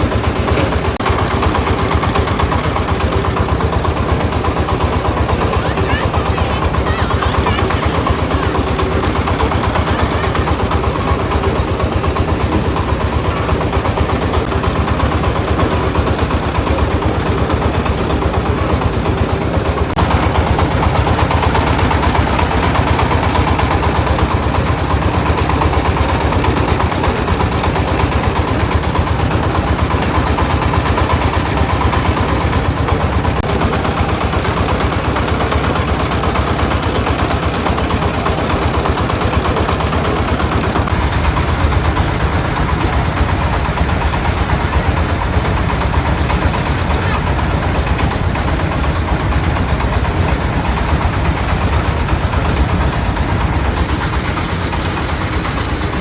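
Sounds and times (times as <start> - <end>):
engine pulsing steadily: 0.0 - 56.0.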